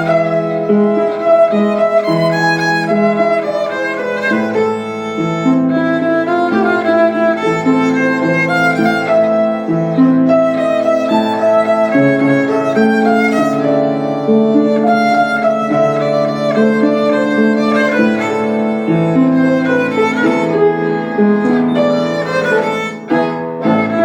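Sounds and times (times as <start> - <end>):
sustained accompaniment notes: 0.0 - 24.0
violin playing tango melody: 0.0 - 24.0.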